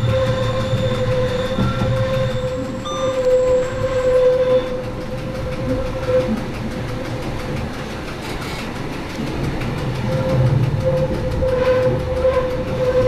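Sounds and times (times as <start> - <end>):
electric train motor whine: 0.0 - 13.0
wheels rumbling on track: 0.0 - 13.0.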